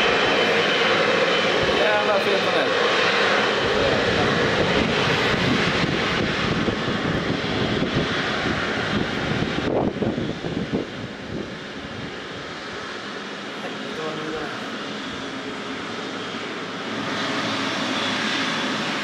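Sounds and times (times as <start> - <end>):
jet engines rushing and whining: 0.0 - 19.0.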